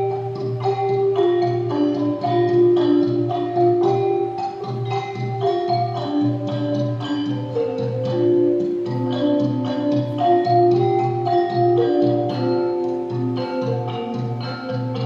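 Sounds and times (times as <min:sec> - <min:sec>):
metallophones playing melody: 0:00.0 - 0:15.0.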